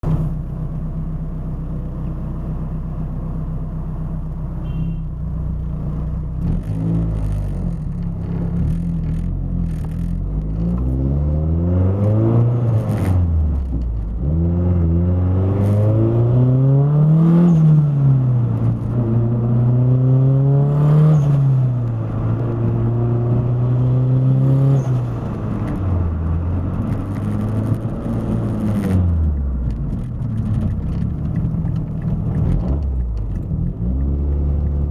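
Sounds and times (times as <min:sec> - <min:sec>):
turbocharged car engine revving: 0:06.4 - 0:34.9.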